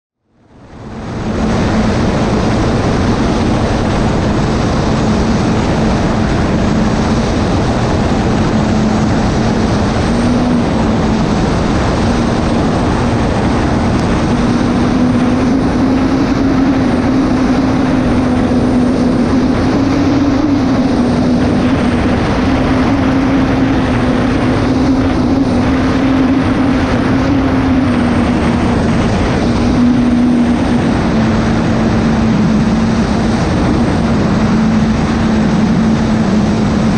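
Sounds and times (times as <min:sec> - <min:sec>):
turbine engine drone: 0:00.2 - 0:36.9
wind and water rush: 0:00.2 - 0:36.9.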